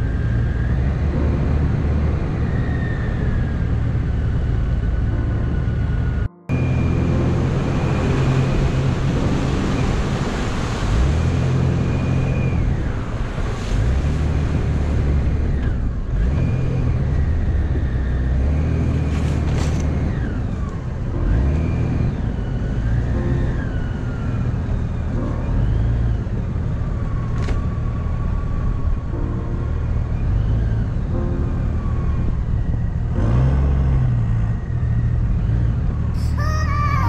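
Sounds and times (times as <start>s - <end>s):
vehicle engine under load: 0.0s - 36.3s.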